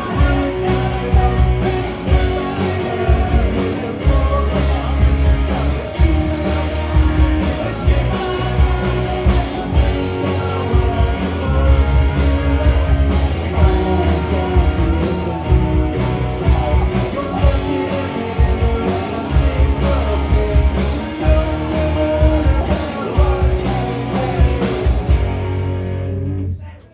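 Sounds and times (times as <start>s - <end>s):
rock music: 0.0s - 26.9s.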